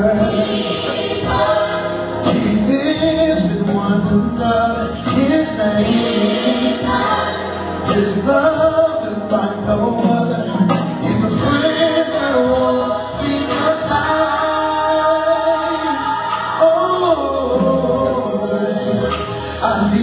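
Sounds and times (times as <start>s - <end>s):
backing track with steady beat: 0.0s - 20.0s
choir singing gospel music: 0.0s - 20.0s.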